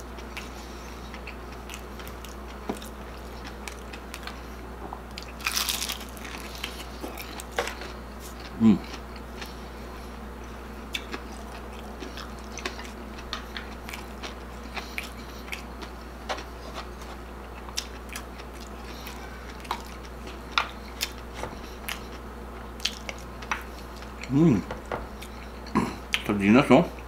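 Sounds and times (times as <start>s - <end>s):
crunchy chewing: 0.0s - 26.3s
low steady hum: 0.0s - 27.0s.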